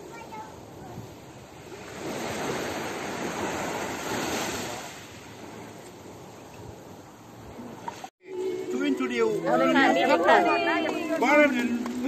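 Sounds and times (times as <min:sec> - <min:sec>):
surf washing up beach: 0:00.0 - 0:12.0.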